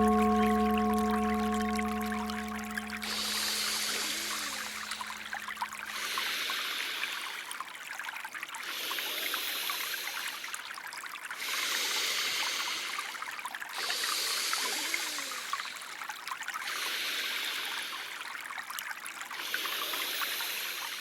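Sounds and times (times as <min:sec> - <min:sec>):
stream water trickling: 0:00.0 - 0:21.0.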